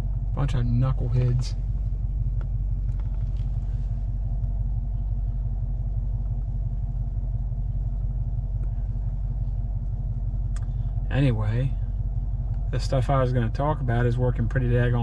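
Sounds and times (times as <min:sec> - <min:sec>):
pickup engine rumble: 0:00.0 - 0:15.0.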